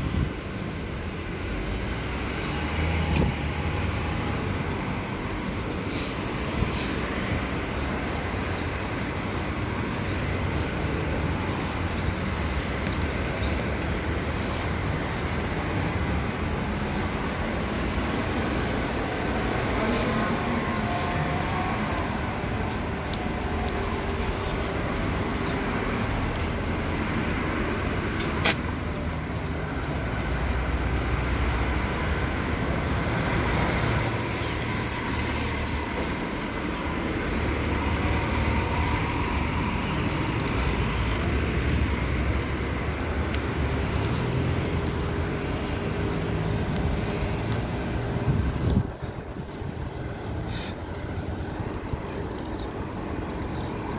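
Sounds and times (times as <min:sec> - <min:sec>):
cars and buses passing: 0:00.0 - 0:53.9.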